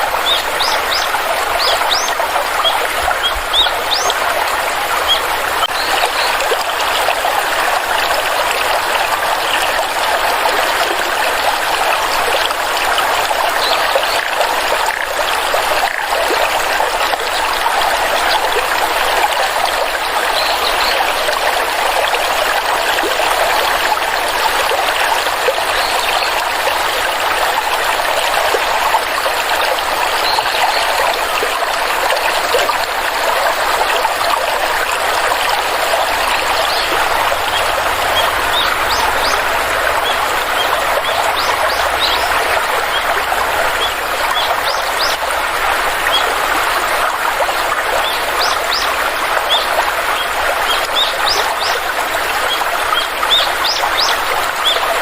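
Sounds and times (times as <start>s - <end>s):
stream of water trickling: 0.0s - 55.0s.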